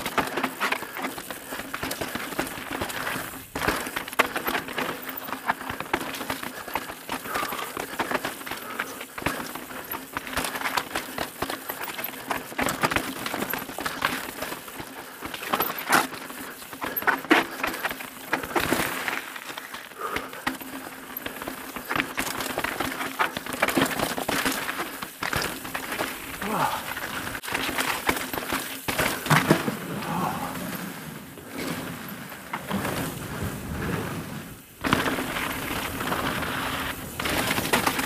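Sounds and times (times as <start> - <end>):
bike knocking and rattling: 0.0 - 38.0
bike tyres rolling over rock: 0.0 - 38.0.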